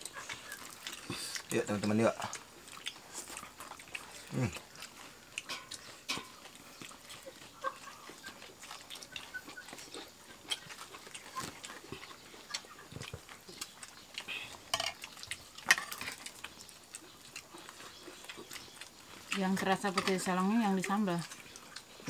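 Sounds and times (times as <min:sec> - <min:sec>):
chewing and lip-smacking: 0:00.0 - 0:22.0.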